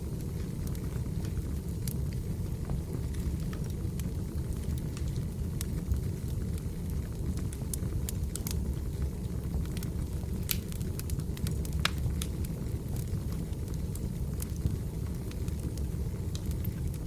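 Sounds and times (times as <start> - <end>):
crackles and pops of burning logs: 0.0 - 17.0
wood fire burning: 0.0 - 17.0.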